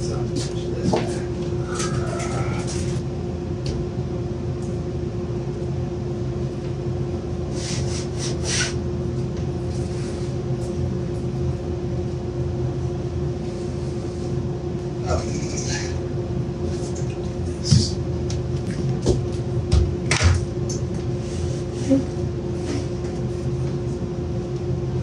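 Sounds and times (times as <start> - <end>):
machine hum and rumble: 0.0 - 25.0.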